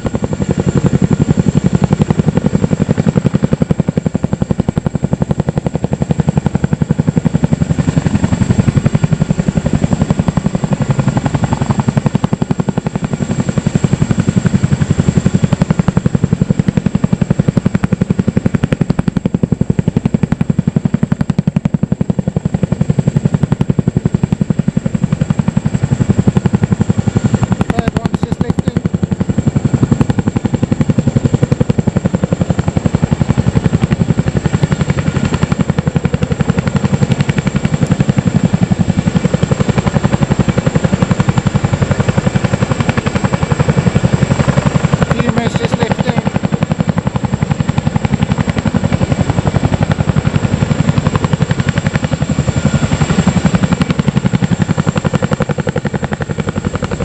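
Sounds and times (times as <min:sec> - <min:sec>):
helicopter rotors thudding: 0:00.0 - 0:57.0.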